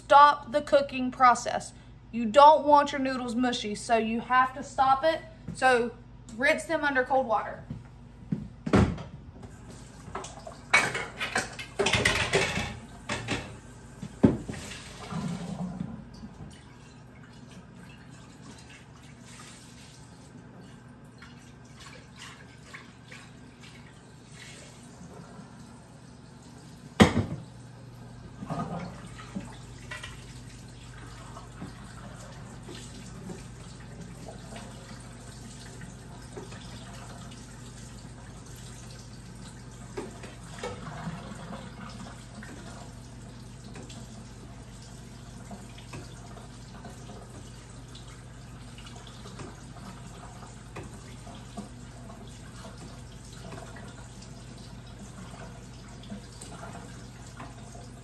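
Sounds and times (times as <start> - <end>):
water splashing from tap: 9.6 - 27.6, 28.2 - 58.0.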